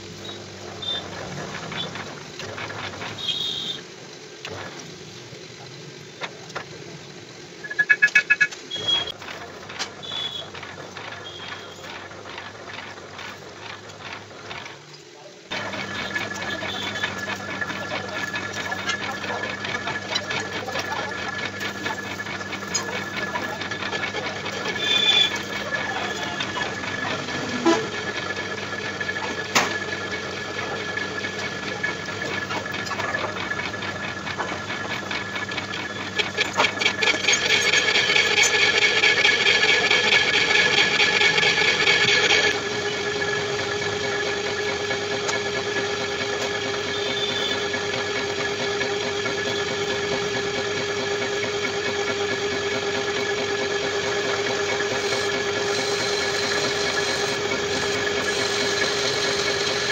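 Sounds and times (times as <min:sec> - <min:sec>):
metal lathe cutting: 0:00.0 - 0:03.9, 0:07.5 - 0:59.9
fast even rattle: 0:07.6 - 0:59.9.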